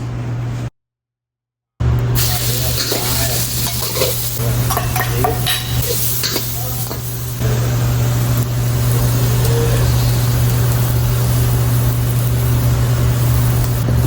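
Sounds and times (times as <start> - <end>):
food sizzling in a frying pan: 2.2 - 14.0.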